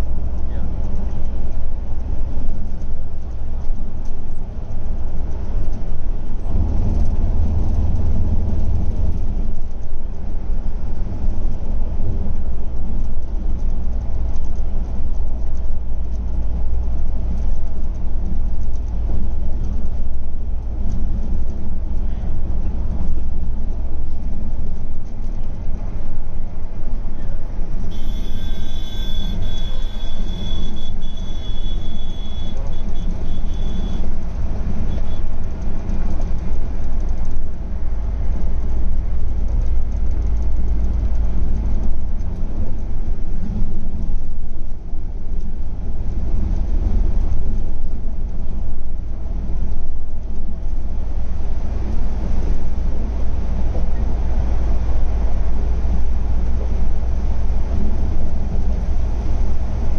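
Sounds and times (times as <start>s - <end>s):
diesel engine low drone: 0.0s - 59.9s
tyre and road noise: 0.0s - 59.9s.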